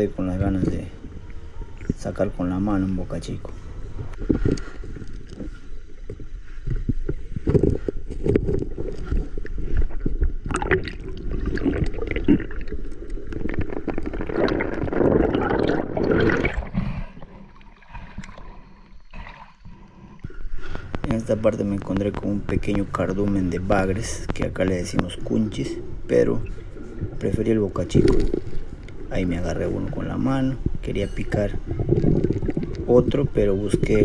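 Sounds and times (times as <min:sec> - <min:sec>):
muffled underwater water rushing: 0:00.0 - 0:34.0
knocks and clicks underwater: 0:04.0 - 0:18.5, 0:19.6 - 0:34.0.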